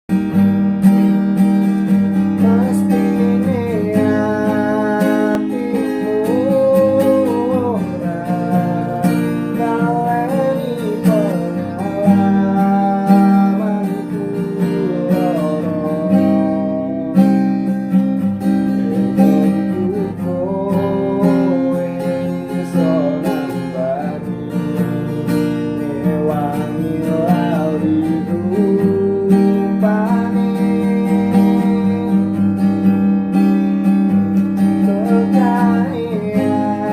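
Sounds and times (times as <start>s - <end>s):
strummed acoustic guitar: 0.1s - 36.9s.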